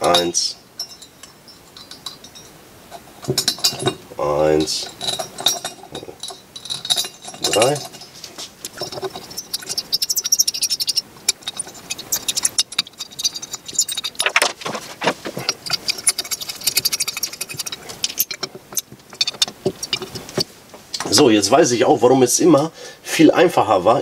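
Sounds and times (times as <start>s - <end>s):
small metal parts clinking: 0.0s - 21.1s.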